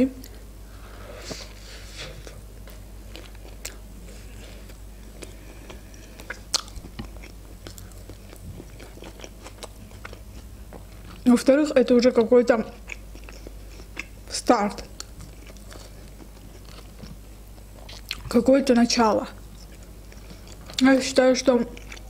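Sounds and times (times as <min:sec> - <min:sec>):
chewing with soft crunches: 0:01.3 - 0:18.4, 0:19.3 - 0:22.0.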